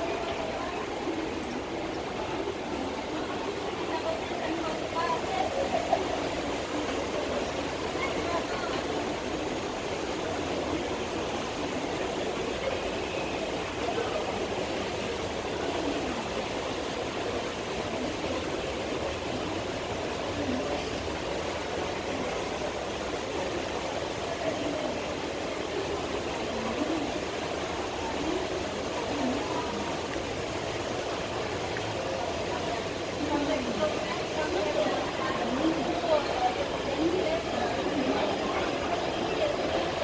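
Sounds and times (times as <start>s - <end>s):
airport terminal hubbub: 0.0s - 40.0s.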